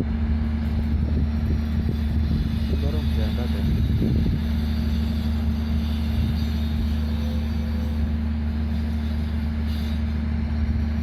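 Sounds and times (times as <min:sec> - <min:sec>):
diesel locomotive engine humming: 0:00.0 - 0:11.0.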